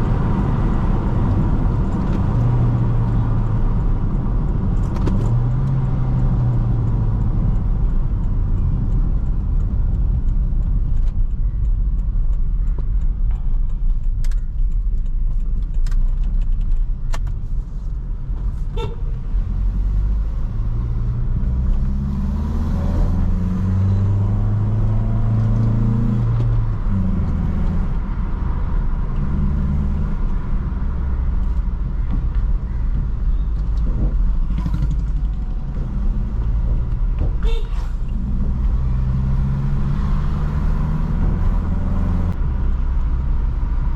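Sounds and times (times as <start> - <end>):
road rumble: 0.0 - 43.9.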